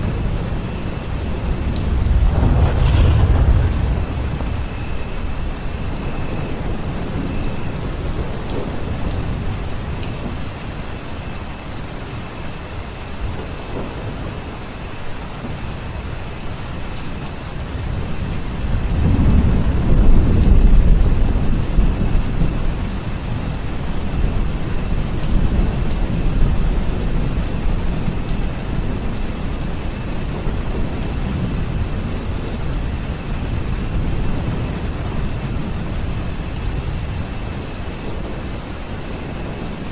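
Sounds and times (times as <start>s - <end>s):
low rumble of thunder: 0.0s - 11.5s, 13.2s - 39.9s
steady rain falling: 0.0s - 39.9s.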